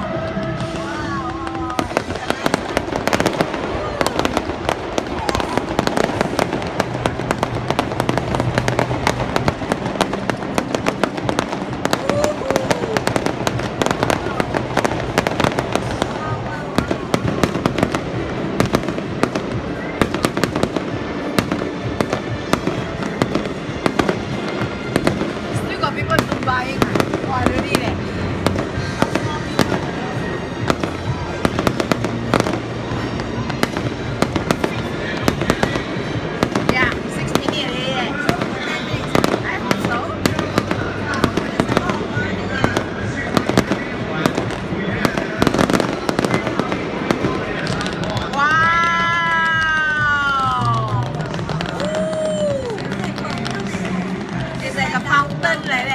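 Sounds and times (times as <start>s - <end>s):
fireworks cracking and popping: 0.0s - 55.9s.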